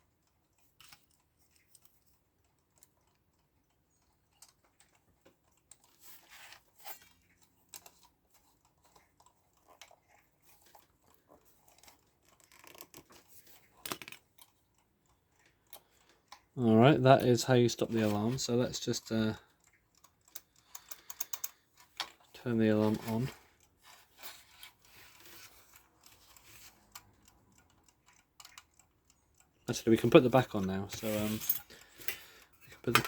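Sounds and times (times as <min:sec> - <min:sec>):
small parts clicking and scraping: 0:00.0 - 0:33.0.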